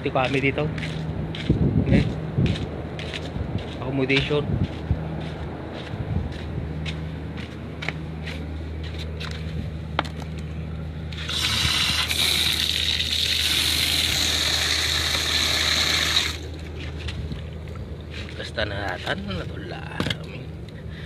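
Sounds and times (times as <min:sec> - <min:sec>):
diesel generator humming: 0:00.0 - 0:21.0.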